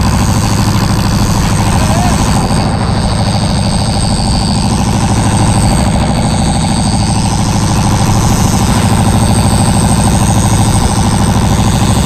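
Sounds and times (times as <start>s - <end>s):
diesel boat engine running: 0.0s - 12.0s.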